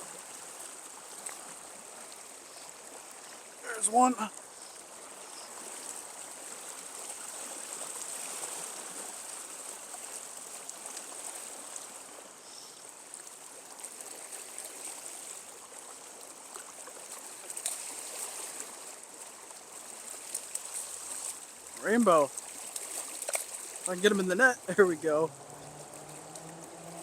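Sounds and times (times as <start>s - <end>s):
rushing stream water: 0.0s - 27.0s.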